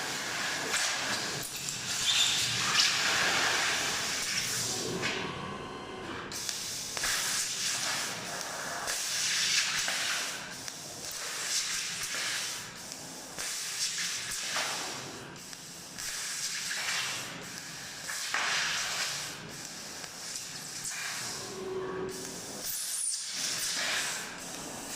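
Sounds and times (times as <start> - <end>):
laser cutter gas hissing: 0.0 - 4.9, 6.3 - 24.9.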